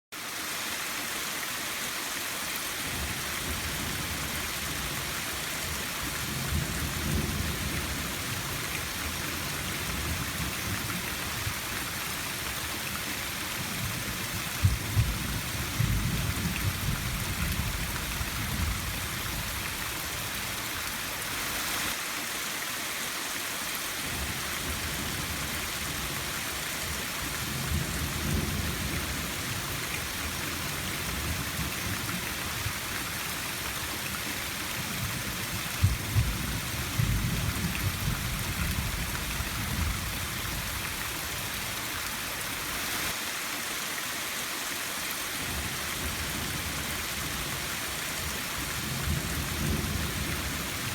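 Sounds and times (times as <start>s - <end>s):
rain hiss: 0.2s - 50.9s.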